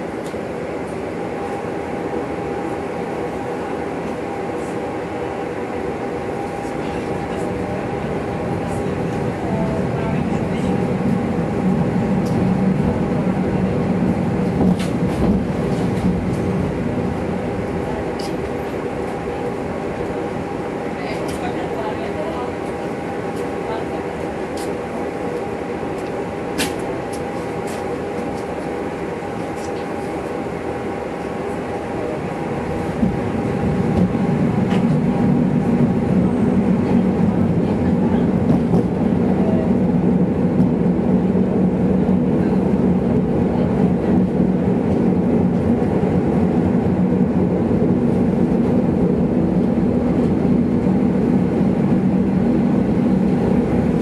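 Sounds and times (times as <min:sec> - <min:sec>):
tram humming: 0:00.0 - 0:54.0
tram motors and wheels on rails: 0:00.0 - 0:54.0.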